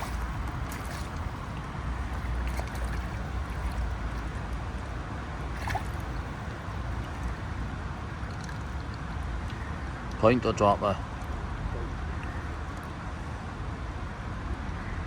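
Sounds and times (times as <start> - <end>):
shallow stream rushing: 0.0 - 14.6.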